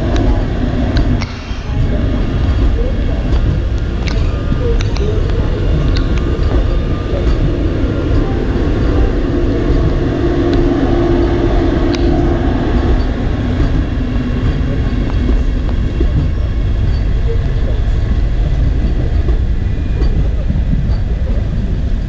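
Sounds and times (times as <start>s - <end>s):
humming tone: 0.0s - 22.0s
train wheels rumbling on rails: 0.0s - 22.0s.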